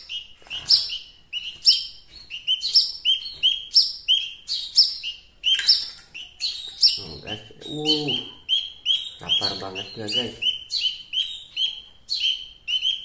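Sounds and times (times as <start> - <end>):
fledgling bird chirping: 0.0 - 13.0.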